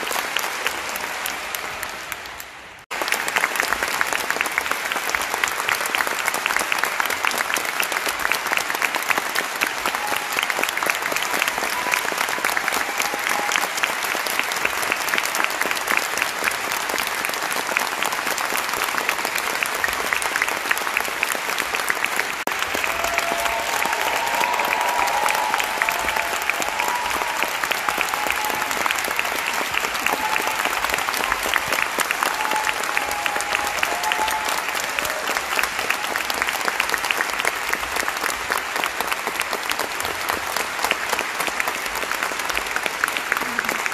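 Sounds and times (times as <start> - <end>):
audience applauding: 0.0 - 43.9.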